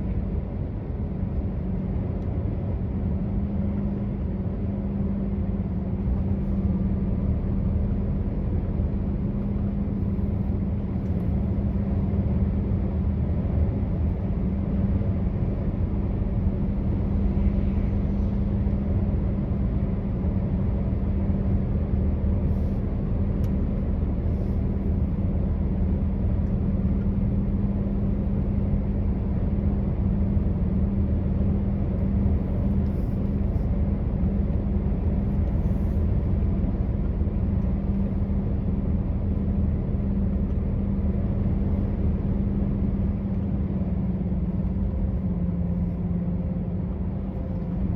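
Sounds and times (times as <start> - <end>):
road noise: 0.0 - 47.9
truck engine droning: 0.0 - 47.9.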